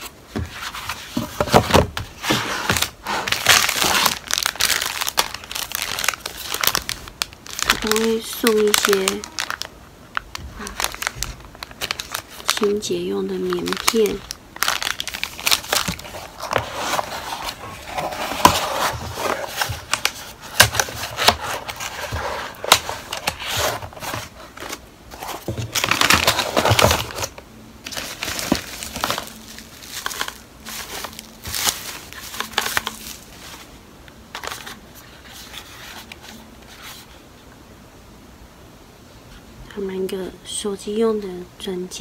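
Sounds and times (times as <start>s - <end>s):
plastic wrappers crinkling: 0.7s - 37.1s.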